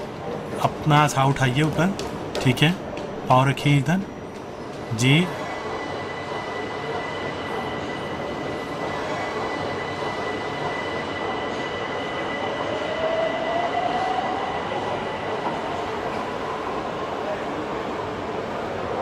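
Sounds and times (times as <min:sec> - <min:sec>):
subway train rushing rumble: 0:00.0 - 0:19.0.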